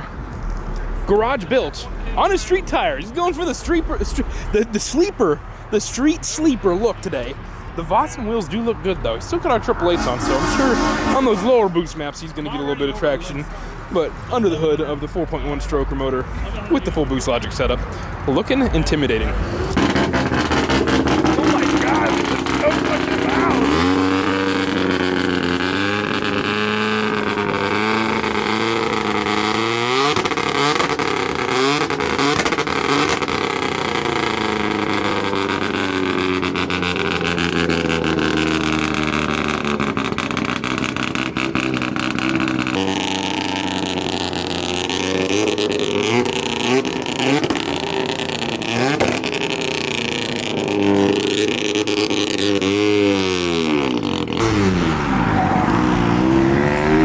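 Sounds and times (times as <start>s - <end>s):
car engines idling and revving: 0.0s - 57.0s.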